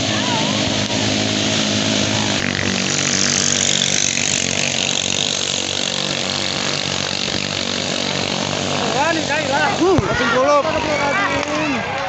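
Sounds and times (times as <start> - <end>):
rushing water and spray: 0.0 - 11.8
racing boat engines buzzing: 0.0 - 12.0.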